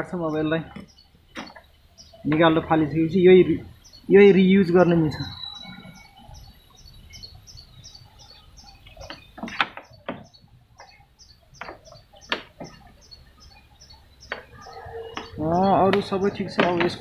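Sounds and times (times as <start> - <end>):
high chirping: 0.0 - 17.0.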